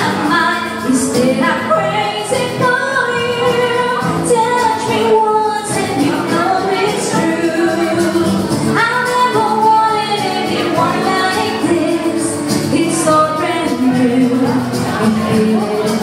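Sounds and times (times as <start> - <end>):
electric and acoustic guitars: 0.0 - 16.0
woman singing into a microphone: 0.0 - 16.0.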